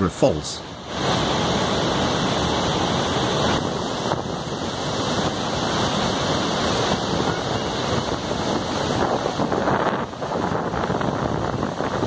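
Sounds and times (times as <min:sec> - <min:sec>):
waterfall roaring: 0:00.0 - 0:12.0
wind buffeting microphone: 0:00.9 - 0:12.0.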